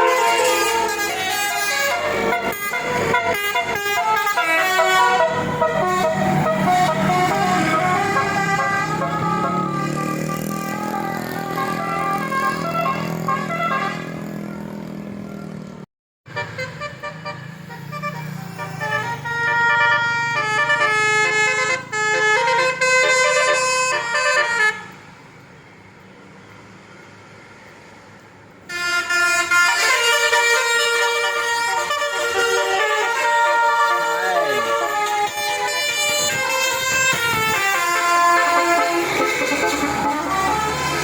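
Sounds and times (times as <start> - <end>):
bus musical horn playing: 0.0 - 14.7, 16.3 - 25.2, 28.7 - 41.0.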